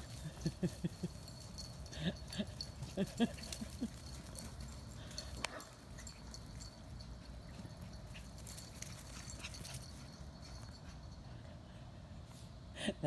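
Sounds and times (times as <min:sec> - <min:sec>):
dogs moving clicks and rustles: 0:00.0 - 0:11.2.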